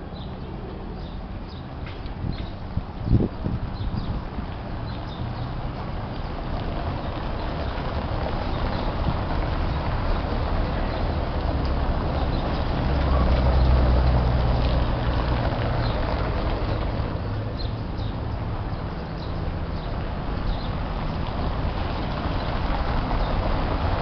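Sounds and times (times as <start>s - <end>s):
car tyres rumbling on cobblestones: 0.0s - 24.0s.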